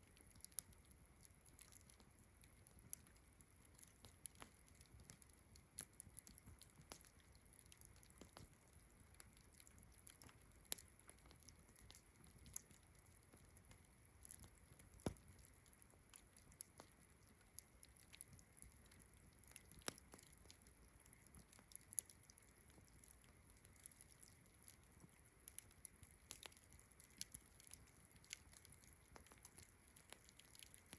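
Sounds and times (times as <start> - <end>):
campfire crackling: 0.0 - 30.9.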